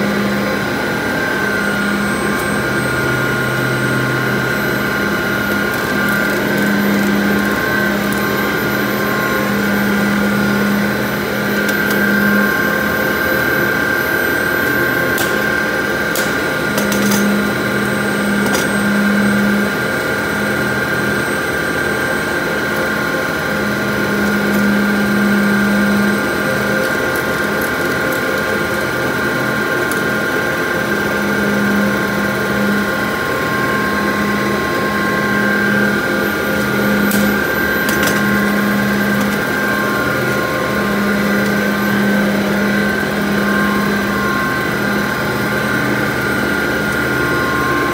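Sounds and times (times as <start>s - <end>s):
high steady whine: 0.0s - 47.9s
low hum: 0.0s - 47.9s.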